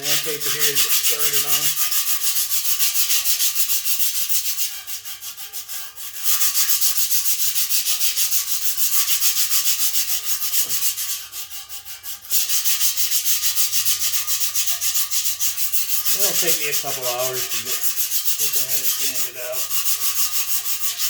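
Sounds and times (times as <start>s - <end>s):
sandpaper rubbing on steel tubes: 0.0s - 21.0s.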